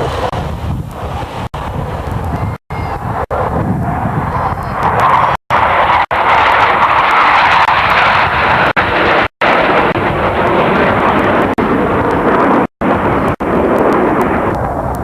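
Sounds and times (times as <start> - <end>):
jet engine roar passing: 0.0 - 15.0.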